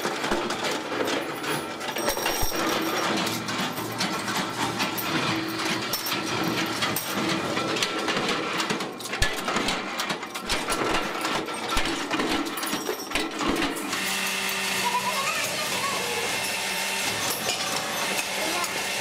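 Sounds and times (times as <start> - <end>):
drill press boring steel: 0.0 - 19.0.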